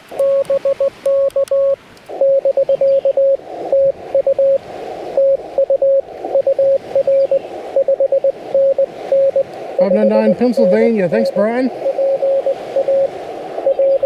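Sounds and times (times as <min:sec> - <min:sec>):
receiver hiss: 0:00.0 - 0:14.0
morse code tone: 0:00.1 - 0:04.6, 0:05.2 - 0:14.0.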